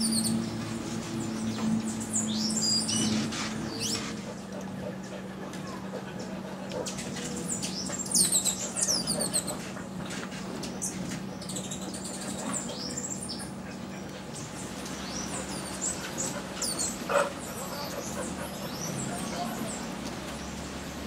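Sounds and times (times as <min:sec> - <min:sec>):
birds chirping: 0:00.0 - 0:21.0
low steady hum: 0:00.0 - 0:21.0.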